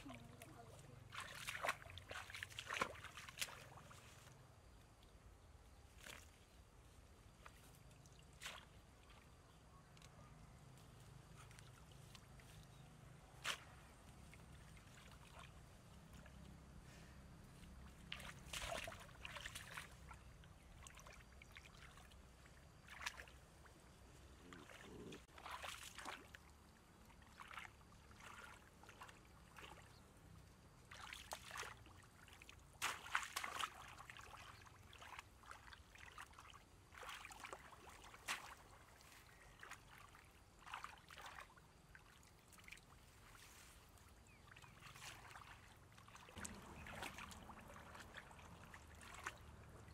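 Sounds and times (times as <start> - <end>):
muddy water splashing: 0.0 - 5.1, 5.9 - 6.7, 7.4 - 10.2, 11.2 - 49.9.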